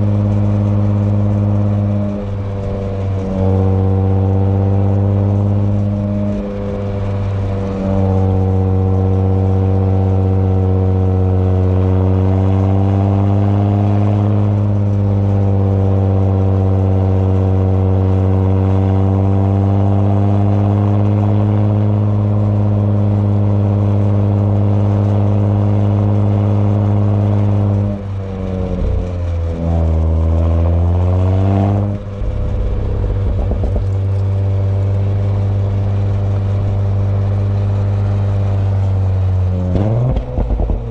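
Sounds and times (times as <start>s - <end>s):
car engine and exhaust droning: 0.0s - 40.9s
exhaust crackle: 0.0s - 40.9s.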